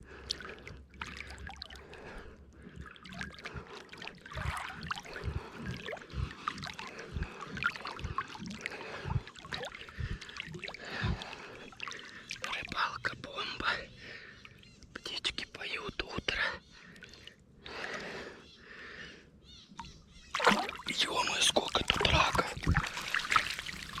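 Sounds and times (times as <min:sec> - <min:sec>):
water sloshing and trickling: 0:00.0 - 0:15.0, 0:16.8 - 0:18.0, 0:19.8 - 0:24.0.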